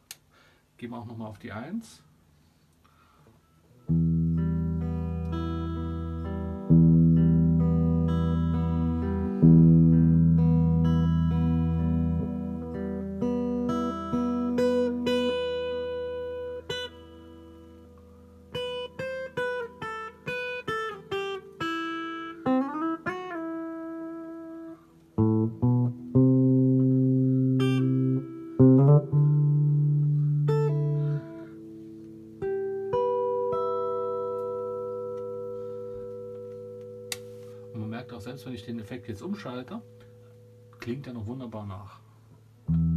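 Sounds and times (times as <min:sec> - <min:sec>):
guitar with reverb: 0:03.0 - 0:42.9.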